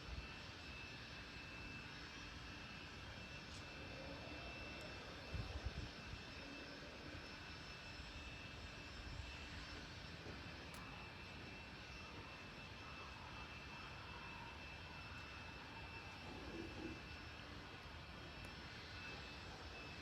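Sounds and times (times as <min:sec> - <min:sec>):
thin high whine: 0:01.8 - 0:20.0.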